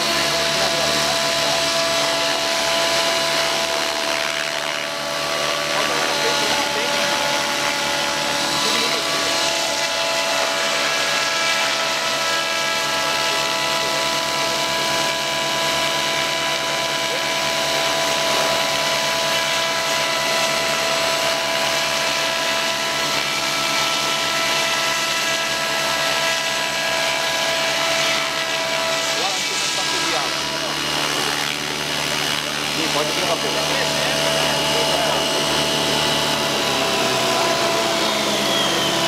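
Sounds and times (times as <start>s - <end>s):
model helicopter motor whine: 0.0s - 39.0s.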